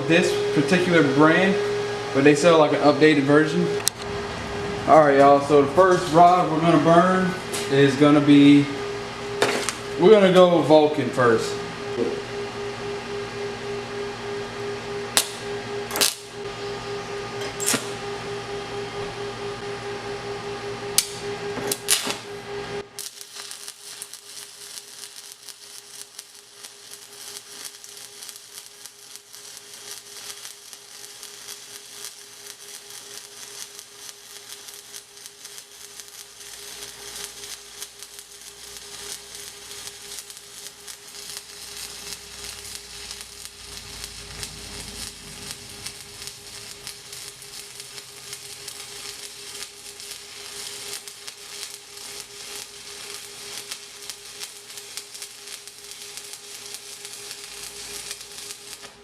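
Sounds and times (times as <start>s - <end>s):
welder humming: 0.0s - 59.0s
welding arc crackling sizzle: 0.0s - 59.0s.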